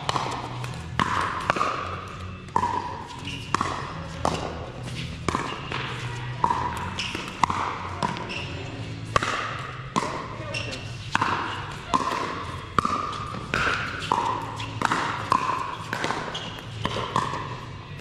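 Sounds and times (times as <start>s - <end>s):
ball bouncing on court: 0.0s - 18.0s.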